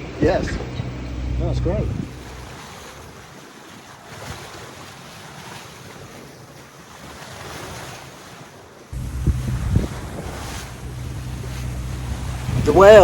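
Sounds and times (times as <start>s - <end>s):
sea rushing past hull: 0.0s - 13.0s
wind: 0.0s - 13.0s.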